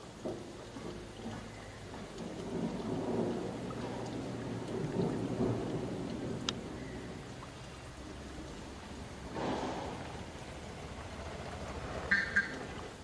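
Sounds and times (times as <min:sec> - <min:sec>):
low uneven rumbling: 0:00.0 - 0:13.0.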